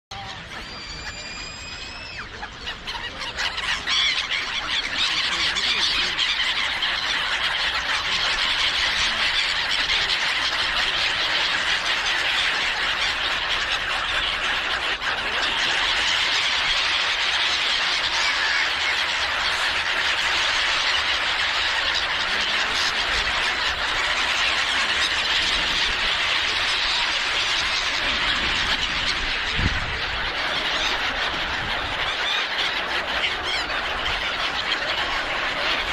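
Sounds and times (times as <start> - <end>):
flock of gulls calling: 0.1 - 35.9.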